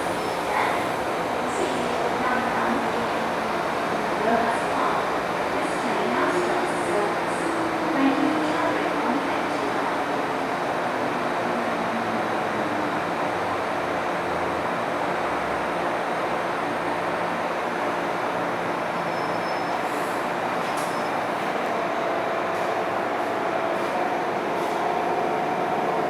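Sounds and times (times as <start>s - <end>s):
metro train rumbling on track: 0.0s - 26.0s.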